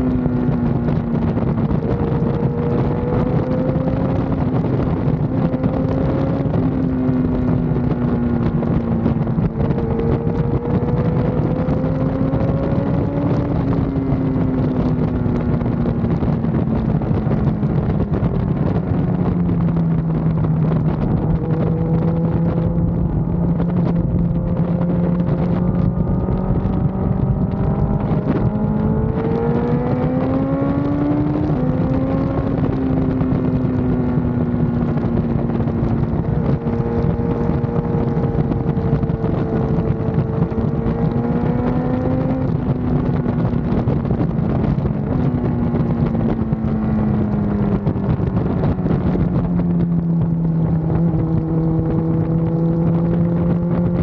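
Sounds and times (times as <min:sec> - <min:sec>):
motorcycle engine revving: 0:00.0 - 0:54.0
wind rushing over microphone: 0:00.0 - 0:54.0.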